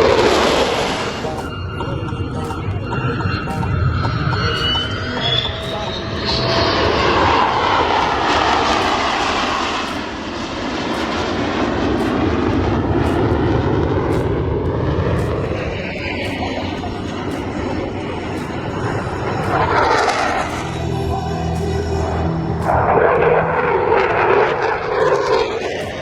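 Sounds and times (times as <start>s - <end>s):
airplanes flying past: 0.0s - 26.0s.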